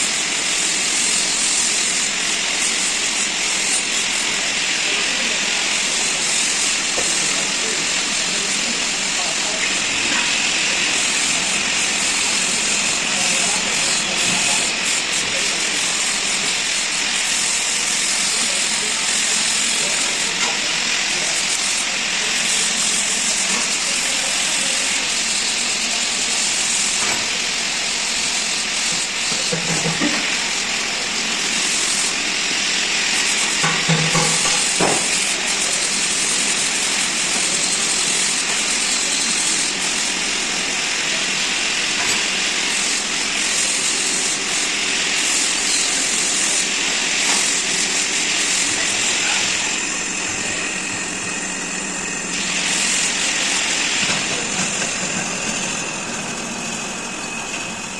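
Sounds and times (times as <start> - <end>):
metal lathe cutting hiss: 0.0 - 57.9.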